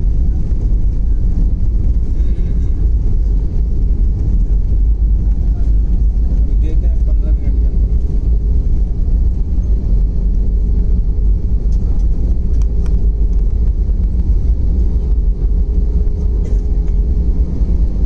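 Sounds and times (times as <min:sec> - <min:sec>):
low rumble of wheels and engines: 0:00.0 - 0:18.0
steady cabin hum: 0:00.0 - 0:18.0.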